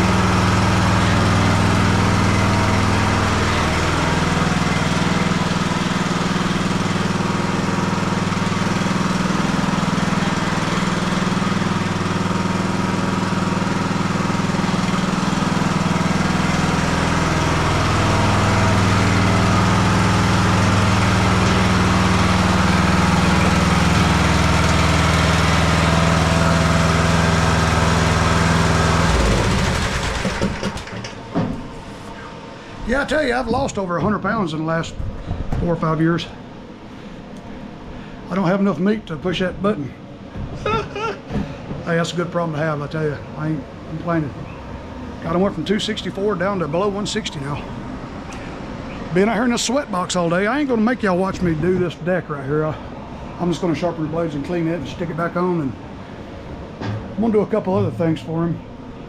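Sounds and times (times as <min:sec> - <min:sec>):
riding mower engine running: 0:00.0 - 0:35.0, 0:41.6 - 0:59.0.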